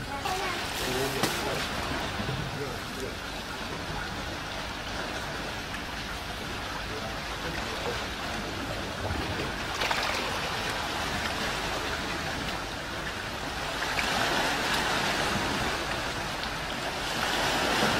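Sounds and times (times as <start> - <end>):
sea water sloshing: 0.0 - 17.9.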